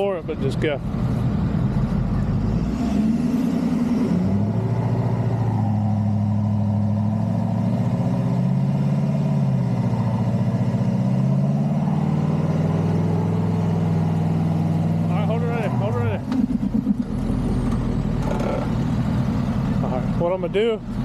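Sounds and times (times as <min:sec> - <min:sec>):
vehicle engine under load: 0:00.0 - 0:21.0.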